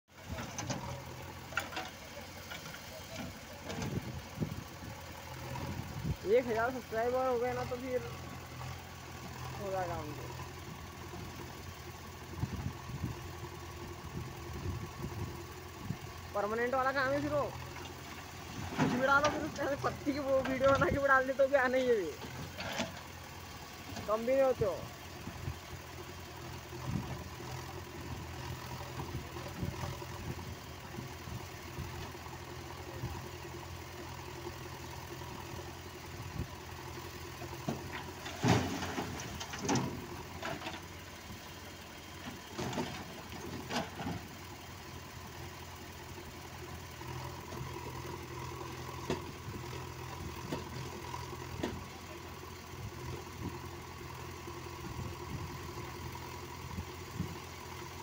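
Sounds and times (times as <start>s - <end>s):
diesel engines running: 0.1s - 58.0s.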